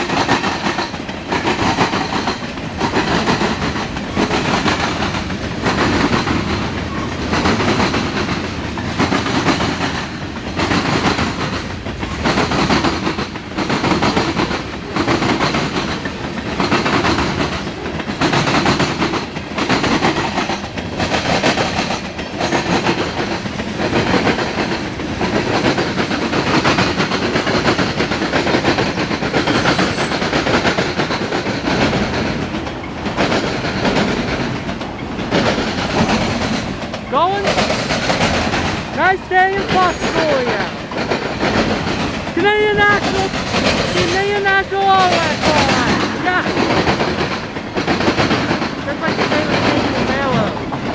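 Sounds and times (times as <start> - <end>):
train wheels clacking on rails: 0.0 - 50.9.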